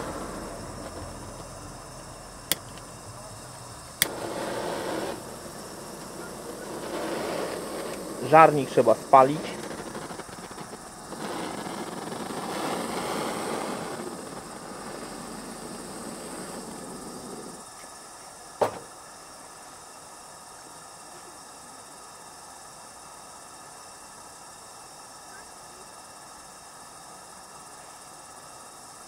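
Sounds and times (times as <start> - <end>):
gas torch hissing: 0.0 - 25.3.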